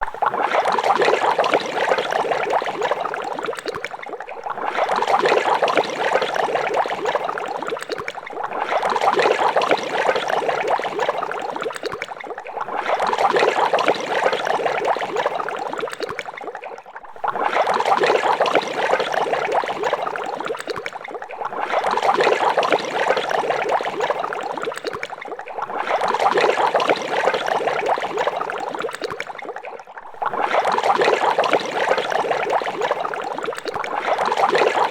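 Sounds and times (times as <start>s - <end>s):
water boiling in a pot: 0.1s - 34.9s.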